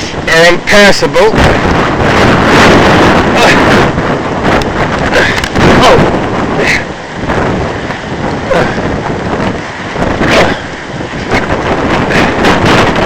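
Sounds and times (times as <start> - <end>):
wind blowing on microphone: 0.0 - 13.0.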